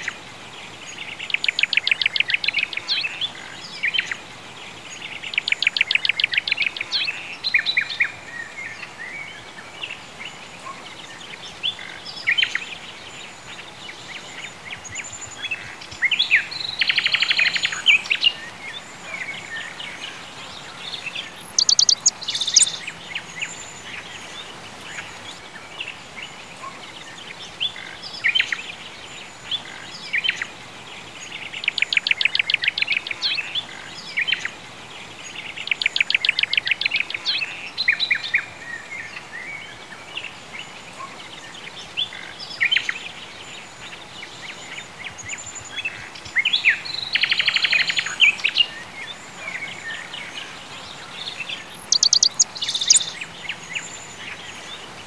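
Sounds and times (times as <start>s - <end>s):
faint outdoor hiss: 0.0s - 55.0s
songbirds singing and trilling: 0.0s - 55.0s.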